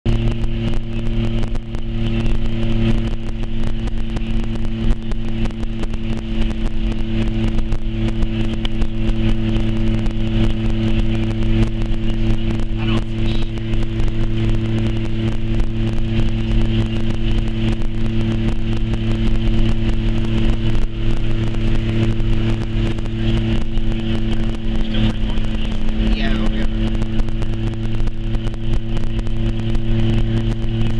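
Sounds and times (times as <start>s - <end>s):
car engine and road drone: 0.0s - 30.9s.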